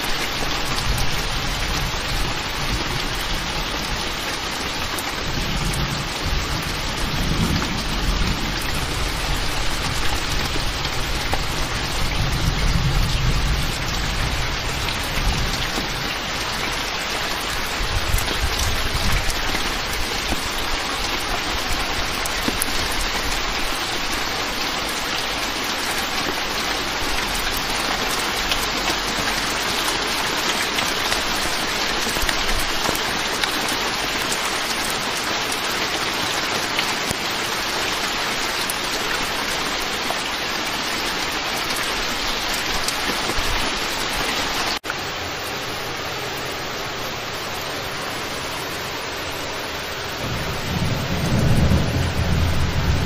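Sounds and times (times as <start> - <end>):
heavy rain downpour: 0.0 - 53.0.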